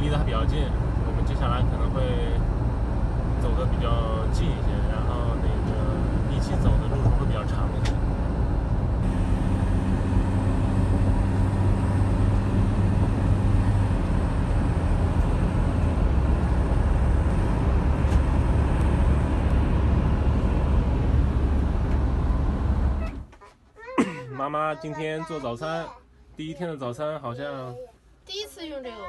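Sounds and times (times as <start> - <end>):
engine and road drone: 0.0 - 23.4.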